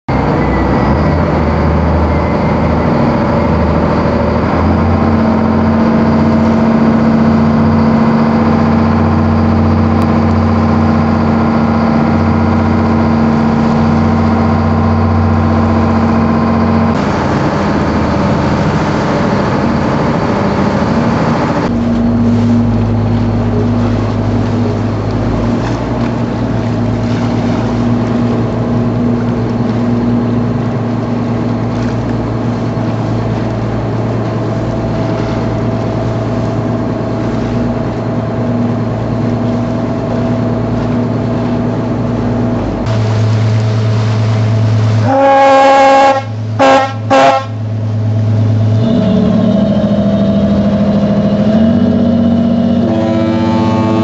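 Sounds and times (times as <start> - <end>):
boat engine droning: 0.1 - 54.0
water wash: 0.1 - 54.0.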